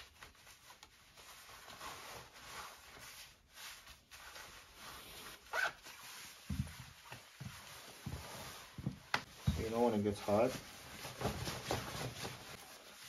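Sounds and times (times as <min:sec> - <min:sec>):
nylon pants rustling and swishing: 0:00.0 - 0:13.0.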